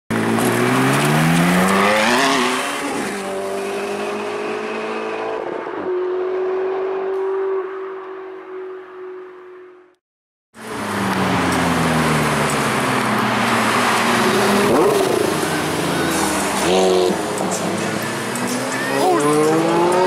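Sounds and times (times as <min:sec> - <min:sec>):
car engine accelerating: 0:00.1 - 0:09.5, 0:10.6 - 0:20.0.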